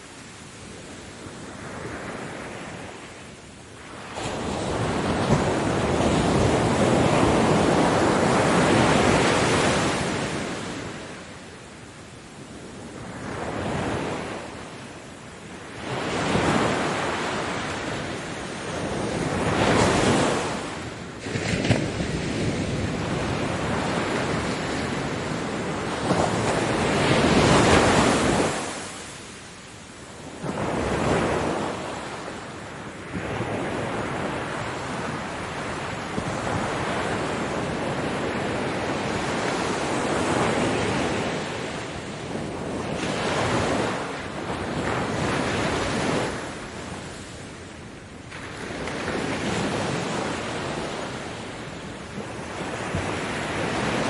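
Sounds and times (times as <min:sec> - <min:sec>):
ocean waves breaking: 0:03.8 - 0:11.4, 0:15.4 - 0:29.5, 0:30.2 - 0:54.0.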